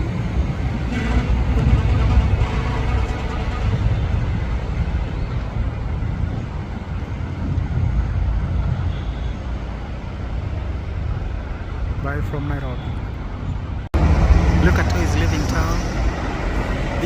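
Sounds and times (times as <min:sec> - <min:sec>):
jet airliner engines rumbling: 0:00.0 - 0:17.0.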